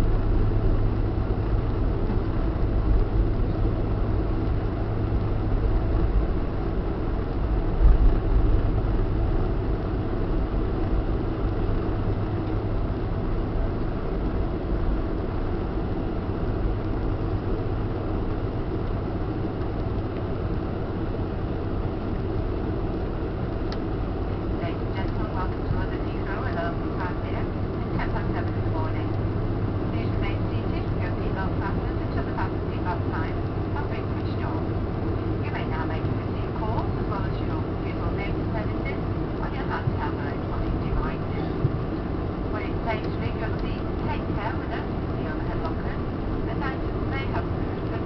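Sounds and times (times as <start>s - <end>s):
airplane cabin engine rumble: 0.0s - 48.0s.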